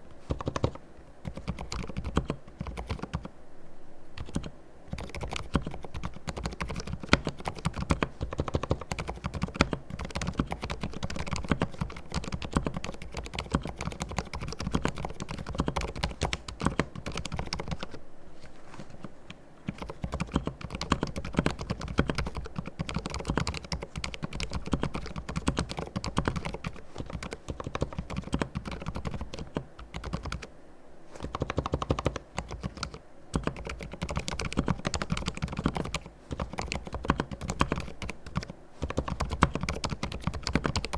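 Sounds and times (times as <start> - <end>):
mechanical keyboard typing: 0.3 - 3.3, 4.2 - 18.0, 19.7 - 30.5, 31.2 - 40.9.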